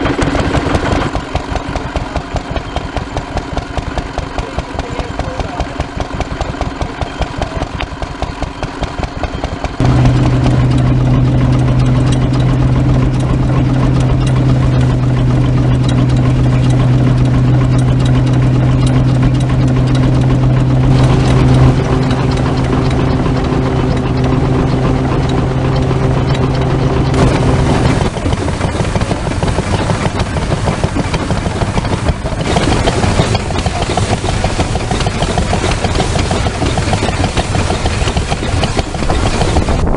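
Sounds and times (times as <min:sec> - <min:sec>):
loud steady low drone: 0:00.0 - 0:39.9
stationary engines firing beats: 0:00.0 - 0:39.9.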